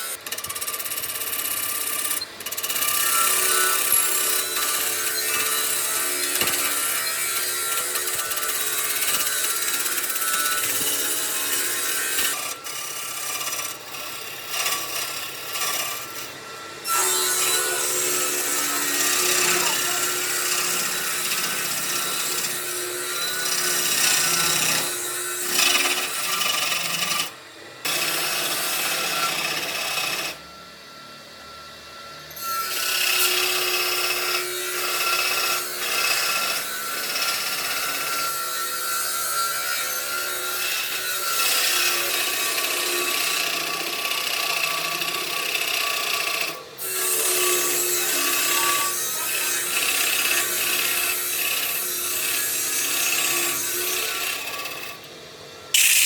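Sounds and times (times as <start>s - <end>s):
power tool abrading wood: 0.0s - 56.0s.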